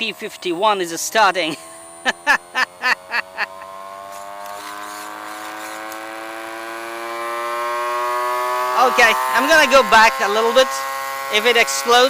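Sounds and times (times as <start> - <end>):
electric motor whine rising: 0.0 - 12.0.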